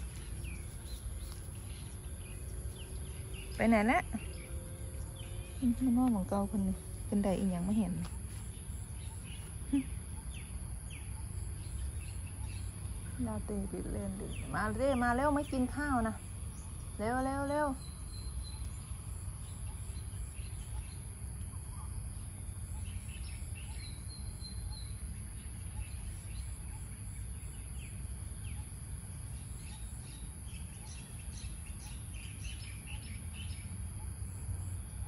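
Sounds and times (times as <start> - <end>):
low background rumble: 0.0 - 28.4
small birds chirping: 0.0 - 35.0.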